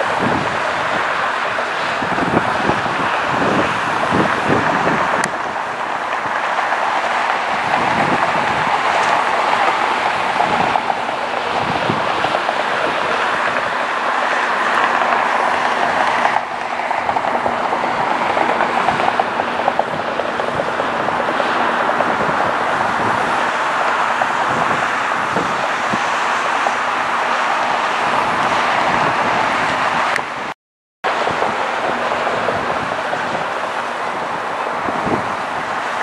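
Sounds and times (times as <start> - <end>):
jet engines roaring: 0.0 - 36.0.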